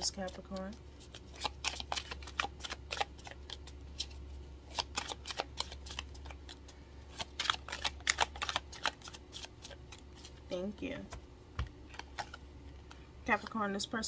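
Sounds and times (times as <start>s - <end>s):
cards being shuffled: 0.0s - 10.4s, 11.0s - 13.6s.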